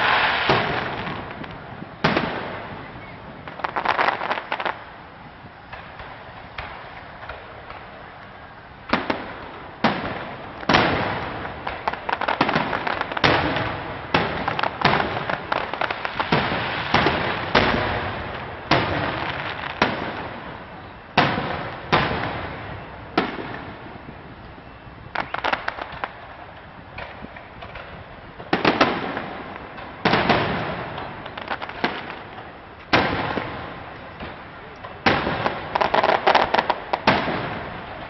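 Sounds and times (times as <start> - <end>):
firework shells booming: 0.0 - 4.8, 8.8 - 24.0, 26.9 - 38.0
fireworks crackling: 0.0 - 38.0.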